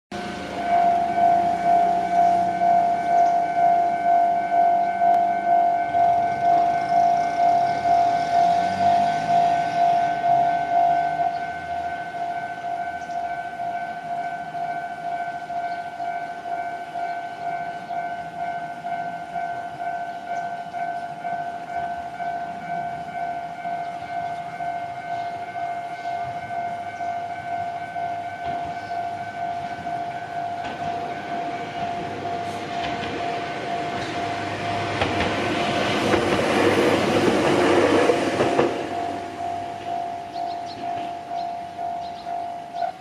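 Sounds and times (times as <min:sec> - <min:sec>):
level crossing warning bell: 0:00.1 - 0:43.0.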